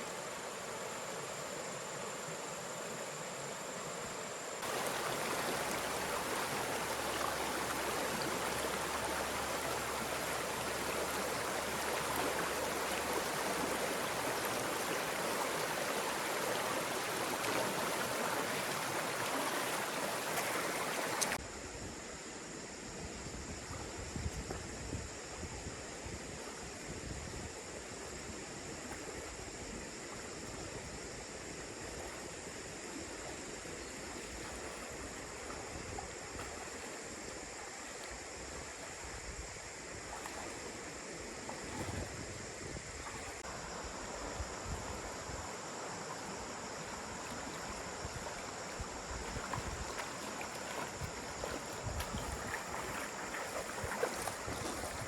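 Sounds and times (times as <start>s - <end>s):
running water rushing: 0.0s - 21.4s, 28.8s - 55.0s
high insect drone: 0.0s - 55.0s.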